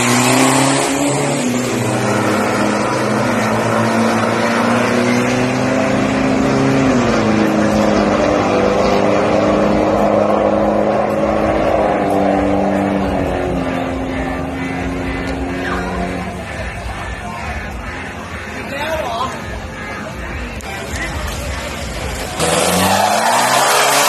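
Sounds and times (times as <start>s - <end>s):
engines at full throttle: 0.0s - 24.0s.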